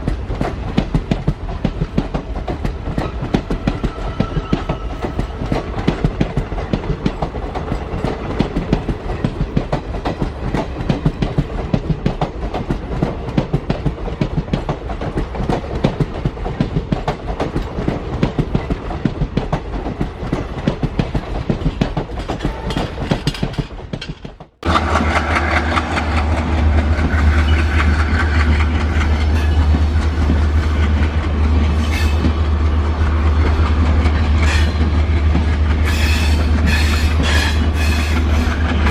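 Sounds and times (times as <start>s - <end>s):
train rumble with deep hum: 0.0s - 38.9s
train wheels clickety-clack: 0.0s - 38.9s.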